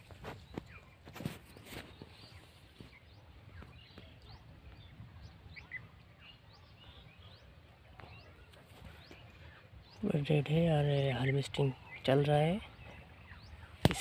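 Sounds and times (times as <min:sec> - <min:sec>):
faint bird chirps: 0:00.3 - 0:14.0.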